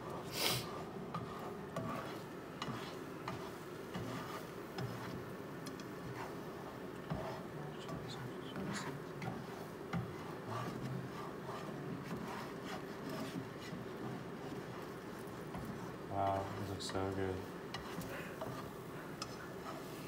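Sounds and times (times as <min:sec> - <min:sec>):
spatula scraping a frying pan: 0:00.0 - 0:20.0.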